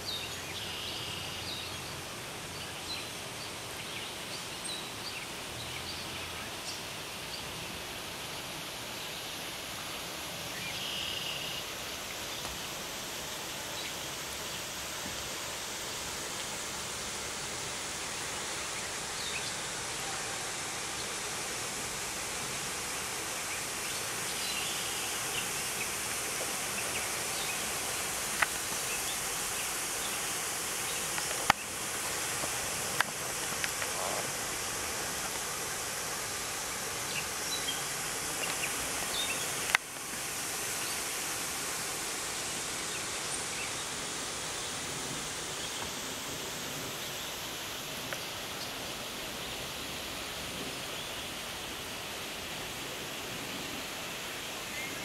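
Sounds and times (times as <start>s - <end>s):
outdoor ambient hiss: 0.0s - 55.0s.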